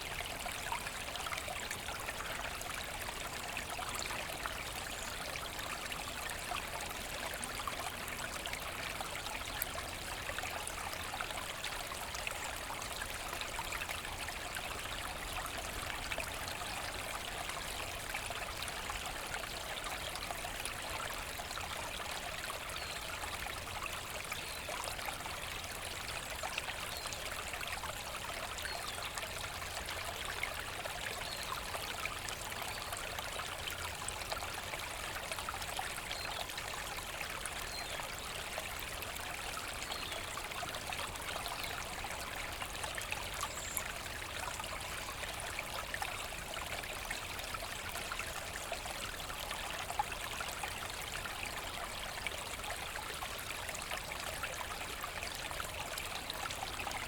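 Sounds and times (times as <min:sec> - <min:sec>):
brook water rushing and trickling: 0:00.0 - 0:57.0.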